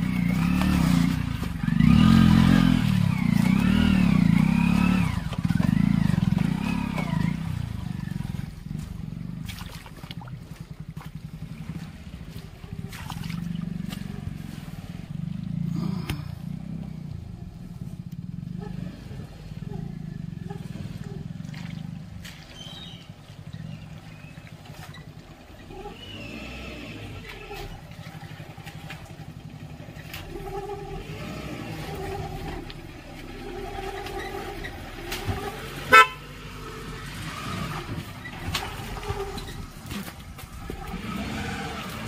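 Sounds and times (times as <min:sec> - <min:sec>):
car engine running at low speed: 0:00.0 - 0:42.0.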